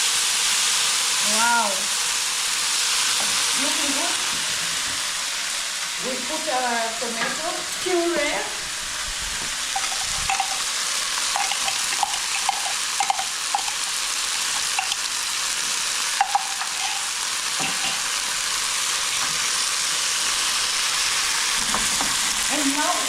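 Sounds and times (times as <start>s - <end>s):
curry sizzling in a pan: 0.0s - 23.0s.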